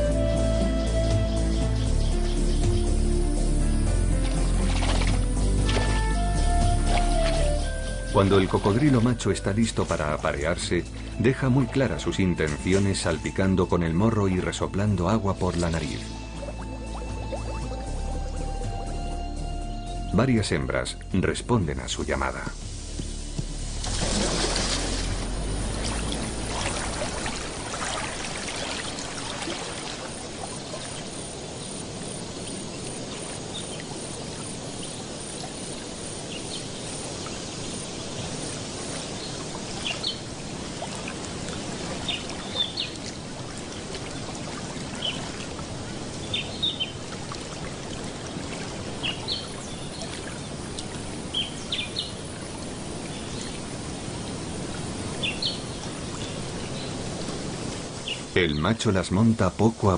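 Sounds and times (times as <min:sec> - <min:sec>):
moving water: 0:00.0 - 0:59.9.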